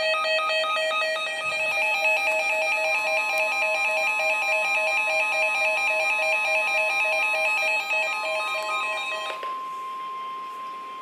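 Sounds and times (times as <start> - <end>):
fast beeping alarm tones: 0.0 - 11.0
steady alarm tone: 0.0 - 11.0.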